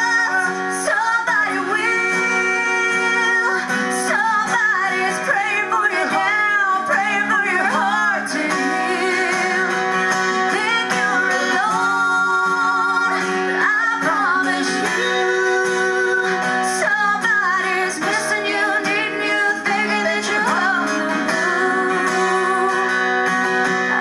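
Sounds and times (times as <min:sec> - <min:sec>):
strummed acoustic guitar: 0:00.0 - 0:24.0
woman singing: 0:00.0 - 0:24.0.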